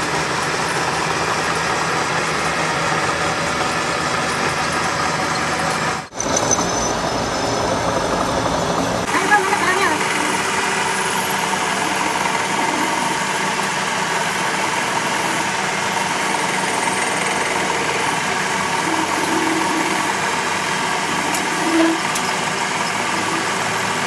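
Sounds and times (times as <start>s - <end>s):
metal lathe cutting steel: 0.0s - 24.0s.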